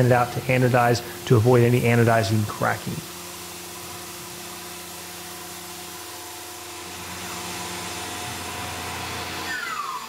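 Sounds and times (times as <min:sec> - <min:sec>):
milling machine cutting metal: 0:00.0 - 0:10.0.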